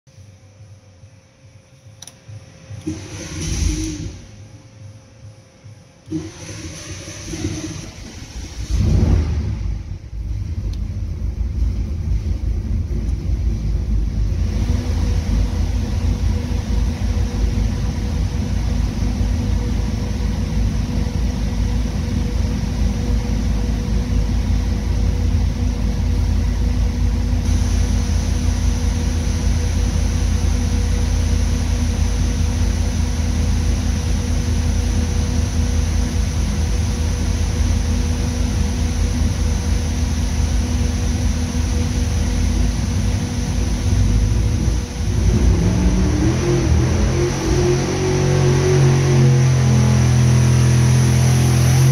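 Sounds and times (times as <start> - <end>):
race engine idling: 6.0 - 51.9.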